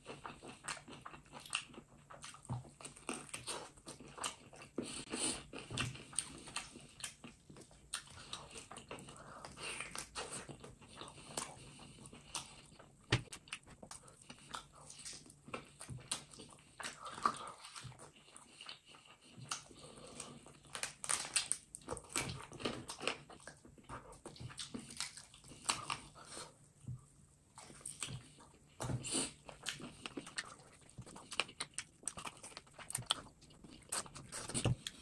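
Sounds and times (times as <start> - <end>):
wet chewing and lip-smacking: 0.0 - 26.9, 27.5 - 35.0.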